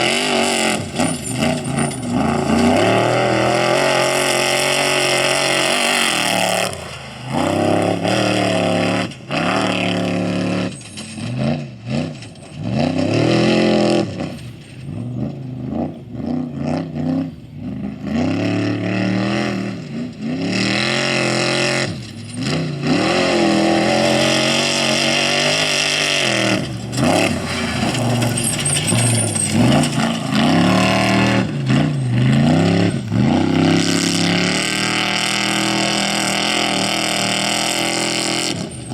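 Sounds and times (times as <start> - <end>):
race vehicle engines revving: 0.0 - 38.9.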